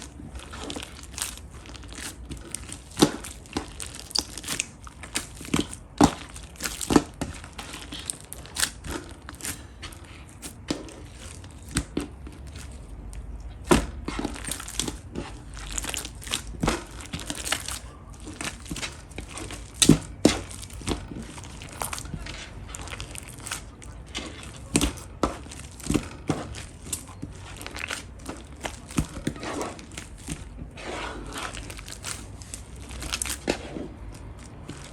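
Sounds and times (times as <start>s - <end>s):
slime clicking and crackling: 0.0s - 34.9s.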